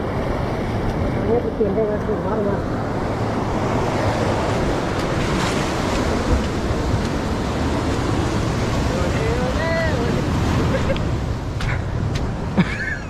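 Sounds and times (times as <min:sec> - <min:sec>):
wind buffeting microphone: 0:00.0 - 0:12.6
waves washing on shore: 0:00.0 - 0:13.0.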